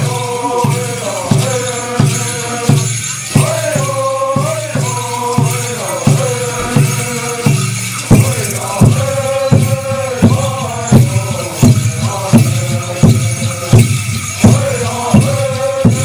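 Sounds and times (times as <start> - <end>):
chorus of low voices singing: 0.0 - 16.0
jingling and rattling costumes: 0.0 - 16.0
steady drum beat: 0.0 - 16.0.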